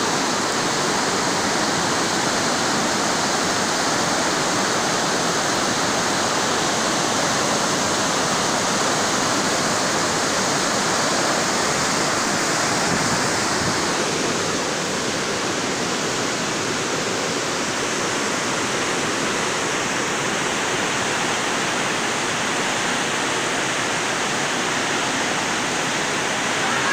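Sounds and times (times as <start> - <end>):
river rushing over rapids: 0.0 - 26.9.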